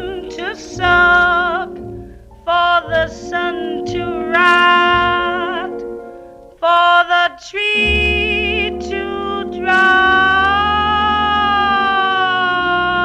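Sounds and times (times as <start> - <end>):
woman singing with vibrato: 0.0 - 5.8, 6.6 - 13.0
low instrumental accompaniment: 0.0 - 6.6, 7.8 - 13.0.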